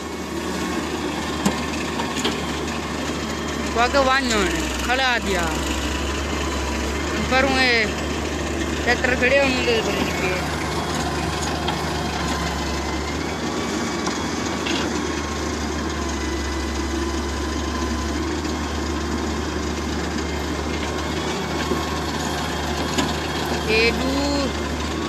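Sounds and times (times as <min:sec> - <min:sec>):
excavator diesel engine drone: 0:00.0 - 0:25.0
tractor engine running: 0:00.0 - 0:25.0.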